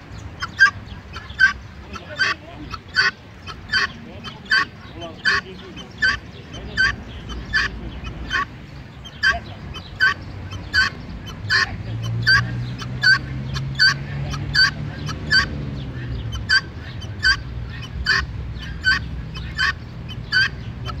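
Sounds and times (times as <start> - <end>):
guineafowl calling: 0.0 - 21.0.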